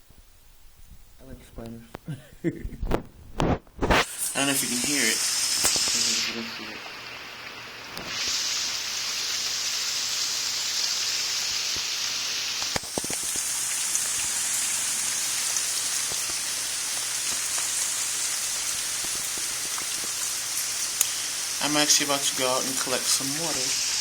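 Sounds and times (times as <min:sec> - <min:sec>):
steady rain falling: 0:04.1 - 0:24.0.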